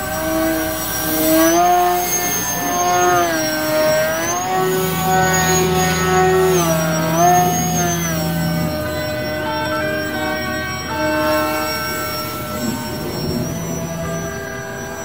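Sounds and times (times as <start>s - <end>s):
electric model plane motor whining: 0.0s - 15.0s.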